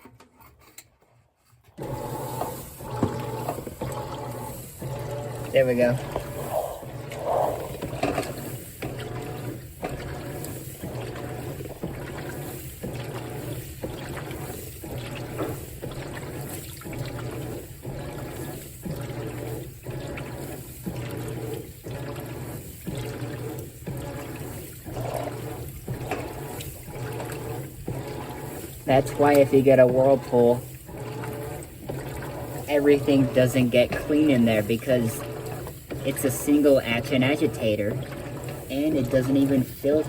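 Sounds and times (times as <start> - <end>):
washer agitator churning water: 0.0 - 40.0
steady motor hum: 1.8 - 40.0.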